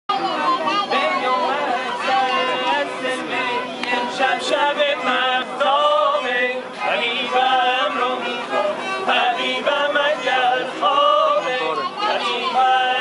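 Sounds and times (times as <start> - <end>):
bowed fiddle playing: 0.1 - 13.0
group of people singing: 0.1 - 13.0.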